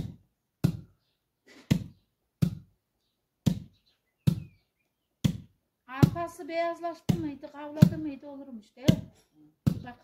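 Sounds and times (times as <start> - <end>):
dull pounding thuds: 0.0 - 1.0, 1.6 - 2.8, 3.4 - 10.0.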